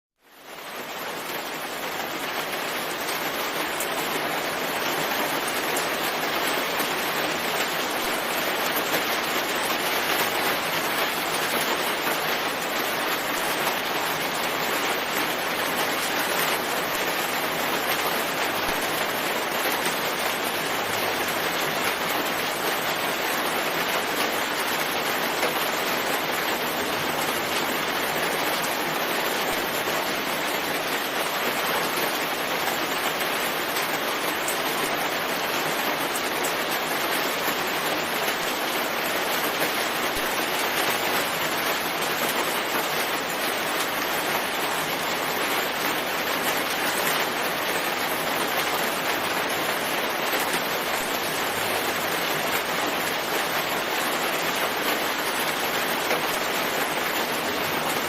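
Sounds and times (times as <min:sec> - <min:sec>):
steady rainfall: 0:00.2 - 0:58.0.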